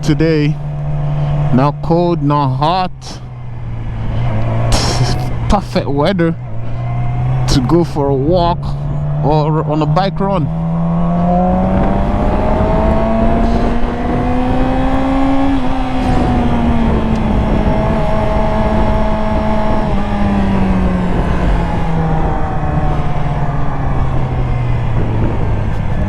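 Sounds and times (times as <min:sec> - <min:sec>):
motorcycle engine running: 0:00.0 - 0:26.0
steady rushing noise: 0:00.0 - 0:26.0.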